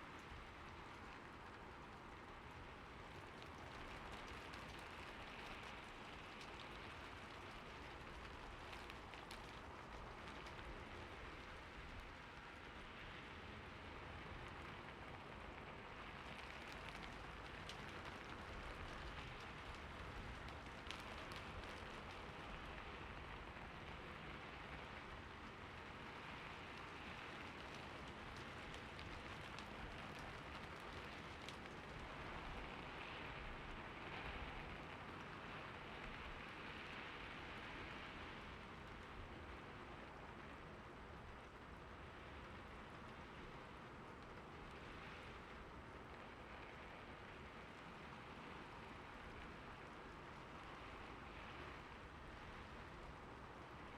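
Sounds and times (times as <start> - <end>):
soft rain falling: 0.0 - 53.9.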